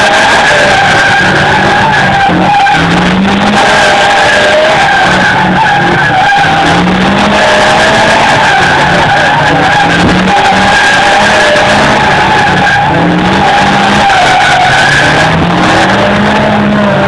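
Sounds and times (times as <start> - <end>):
car engine at high revs: 0.0 - 17.0
tyres squealing: 0.0 - 17.0.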